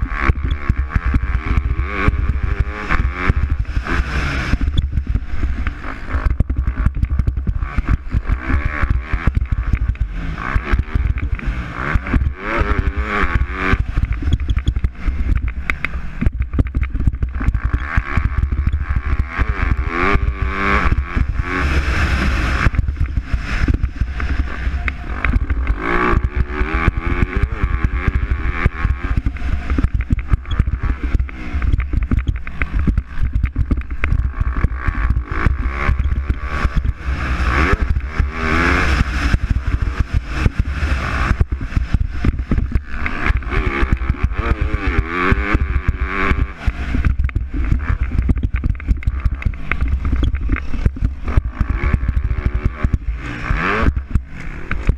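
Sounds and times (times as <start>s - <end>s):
motocross bikes revving: 0.0s - 54.9s.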